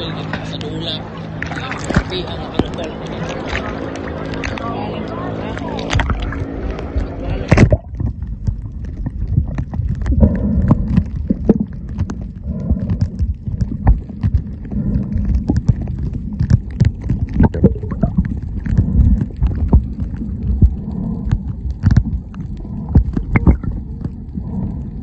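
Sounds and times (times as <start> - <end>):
low underwater rumble: 0.0 - 25.0
underwater clicks and knocks: 1.4 - 4.6, 5.6 - 24.9.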